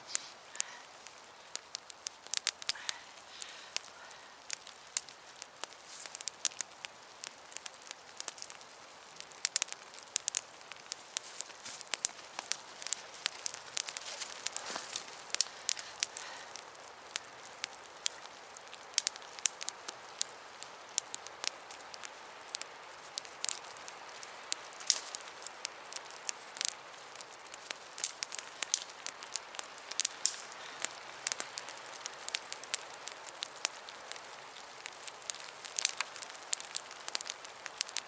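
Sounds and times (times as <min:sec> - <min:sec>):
campfire pops and crackles: 0:00.0 - 0:38.0
steady fire hiss: 0:00.0 - 0:38.0.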